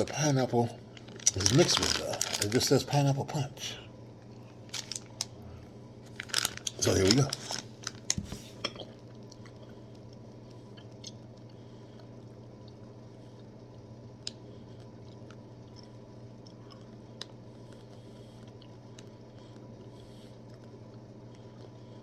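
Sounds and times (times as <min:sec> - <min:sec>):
person chewing gummy candy: 0:00.0 - 0:03.0, 0:04.2 - 0:22.0
steady low hum: 0:00.0 - 0:22.0.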